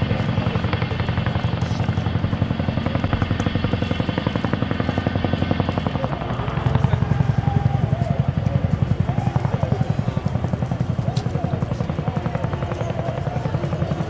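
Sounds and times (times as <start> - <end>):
helicopter engine noise: 0.0 - 14.0
helicopter rotors beating: 0.0 - 14.0.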